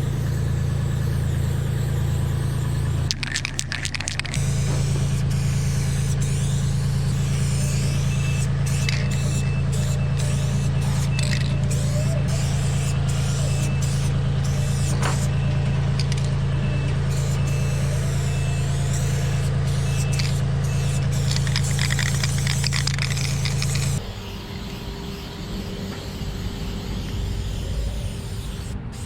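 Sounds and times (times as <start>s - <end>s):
boom lift engine humming: 0.0s - 29.0s.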